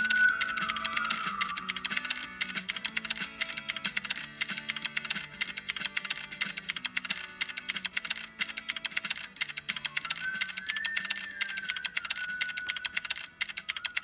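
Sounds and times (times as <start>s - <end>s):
rapid keyboard typing clicks: 0.0s - 14.0s
soft background music: 0.0s - 14.0s.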